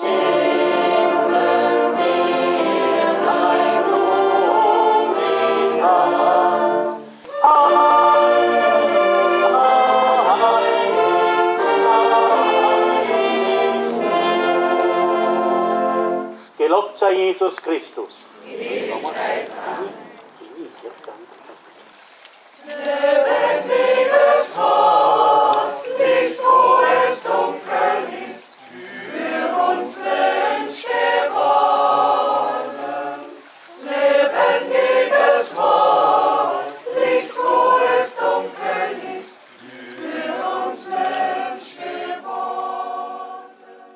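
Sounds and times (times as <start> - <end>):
choir singing a hymn: 0.0 - 16.4, 18.4 - 20.1, 22.6 - 43.9.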